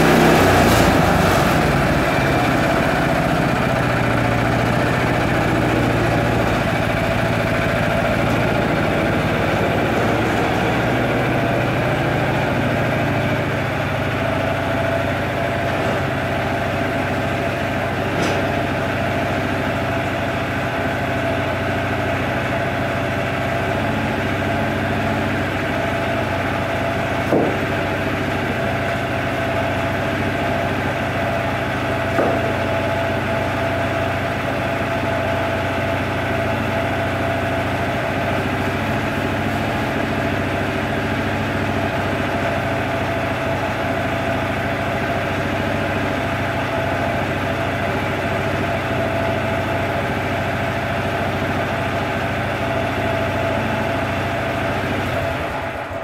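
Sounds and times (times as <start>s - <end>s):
small gas engine idling: 0.0s - 56.0s.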